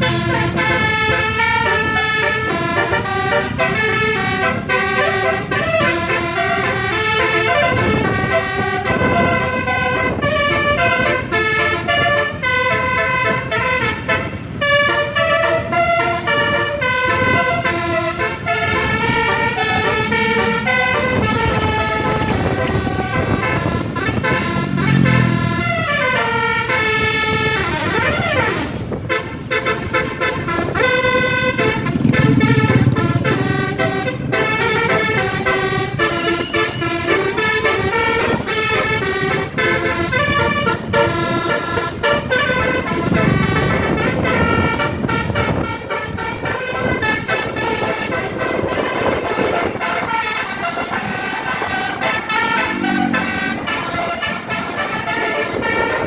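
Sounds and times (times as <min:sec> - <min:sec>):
bus engine noise: 0:00.0 - 0:56.0
multi-tone air horn melody: 0:00.0 - 0:56.0.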